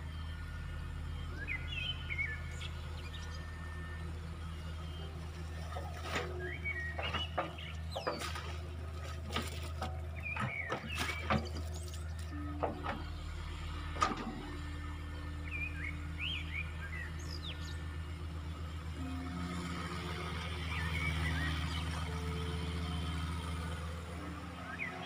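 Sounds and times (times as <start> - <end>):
heavy engine idling: 0.0 - 25.0
birds chirping: 0.1 - 25.0.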